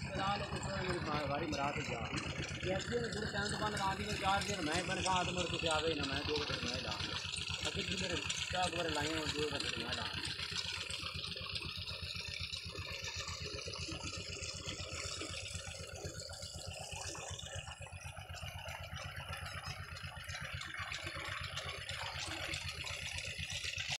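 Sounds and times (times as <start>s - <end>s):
engine chugging: 0.0s - 24.0s.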